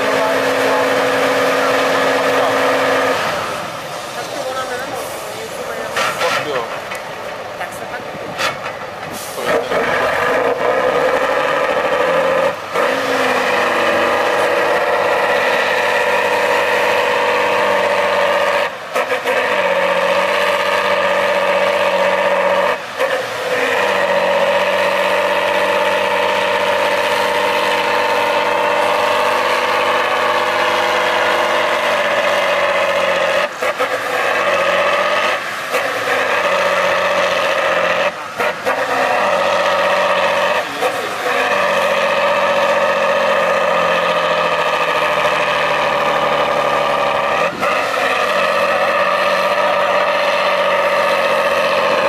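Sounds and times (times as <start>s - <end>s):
truck diesel engine under load: 0.0s - 52.0s.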